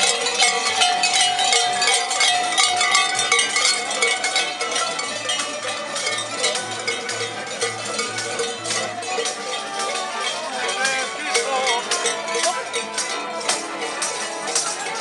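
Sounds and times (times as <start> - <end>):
metal bells clanging: 0.0 - 15.0.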